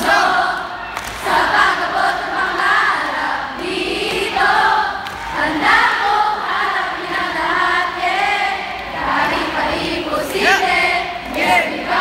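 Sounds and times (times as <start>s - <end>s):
crowd singing together: 0.0s - 12.0s.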